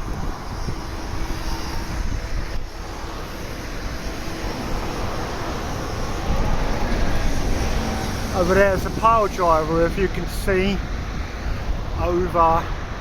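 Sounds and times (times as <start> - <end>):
vehicle traffic rumble: 0.0 - 13.0.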